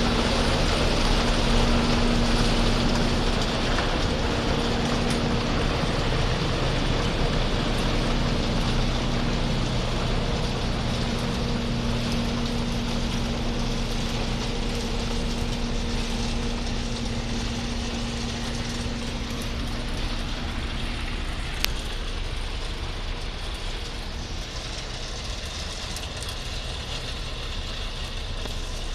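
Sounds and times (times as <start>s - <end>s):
machine engine droning: 0.0s - 28.9s.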